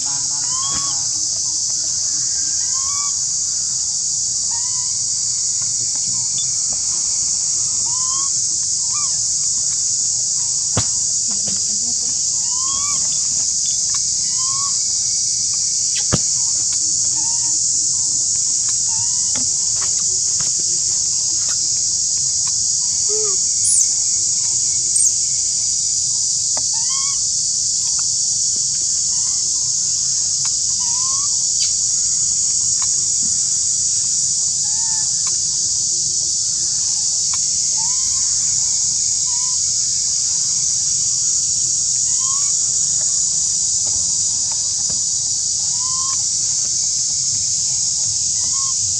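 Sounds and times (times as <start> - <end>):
insect chorus drone: 0.0 - 48.9.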